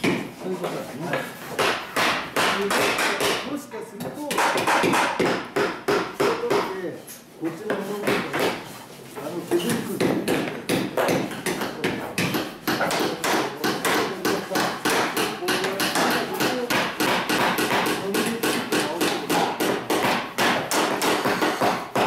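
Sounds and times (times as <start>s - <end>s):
hammers striking wood: 0.0s - 3.5s, 4.3s - 6.8s, 7.7s - 8.6s, 9.6s - 22.0s.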